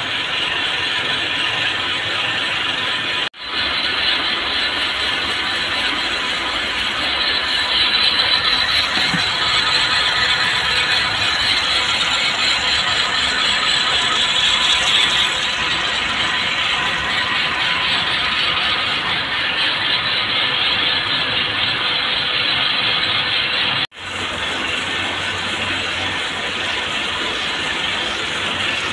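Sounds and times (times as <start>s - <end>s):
braiding machines clattering: 0.0s - 28.9s.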